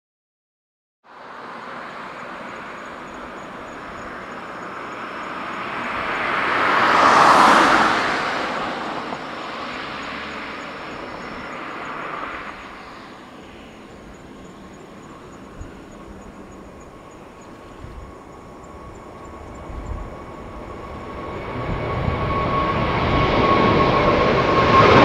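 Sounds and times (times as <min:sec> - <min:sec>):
distant jet engines at takeoff: 0:01.0 - 0:25.0.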